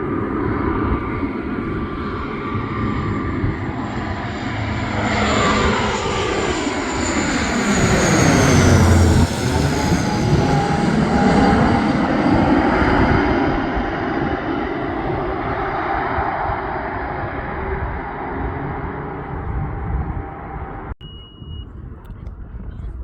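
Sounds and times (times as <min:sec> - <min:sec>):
aircraft engine passing overhead: 0:00.0 - 0:21.0.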